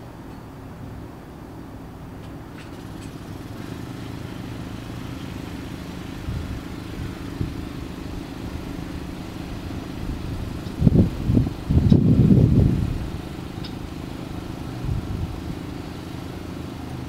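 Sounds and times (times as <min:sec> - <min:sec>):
engine idling: 0:00.0 - 0:17.0
engine throttle blips: 0:00.0 - 0:17.0.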